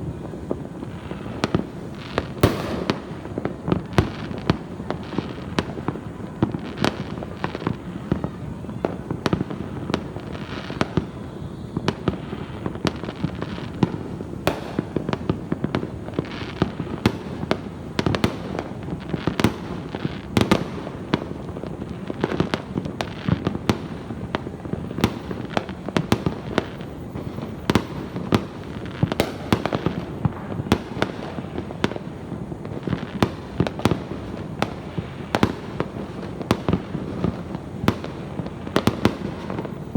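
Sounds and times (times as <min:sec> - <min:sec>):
firecrackers banging and crackling: 0:00.0 - 0:39.9.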